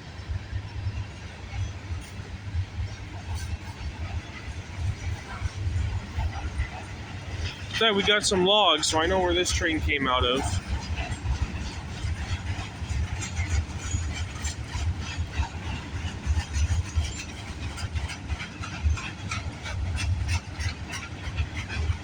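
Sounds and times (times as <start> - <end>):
train wheels rumbling: 0.0 - 22.0
clicks and clacks on rails: 0.8 - 22.0.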